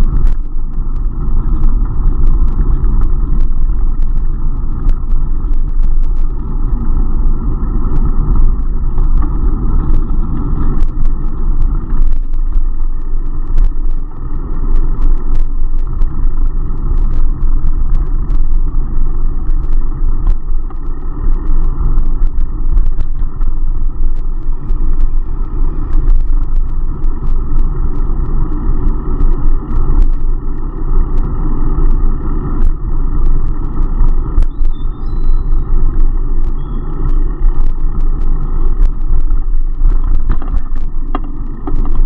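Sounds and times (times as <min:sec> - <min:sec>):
wind and road rumble: 0:00.0 - 0:42.0.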